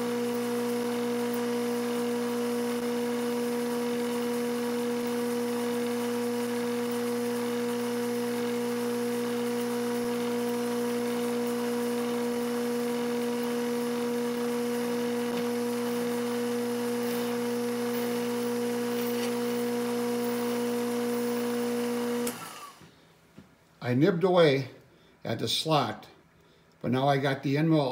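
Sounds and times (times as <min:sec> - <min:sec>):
milling machine cutting steel: 0:00.0 - 0:22.8.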